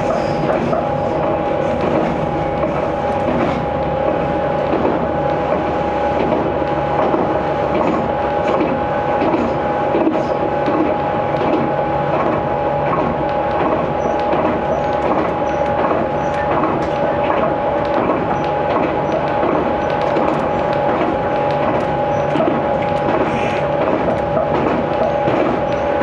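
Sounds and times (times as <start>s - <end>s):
steady train whine: 0.0s - 26.0s
train running rumble: 0.0s - 26.0s.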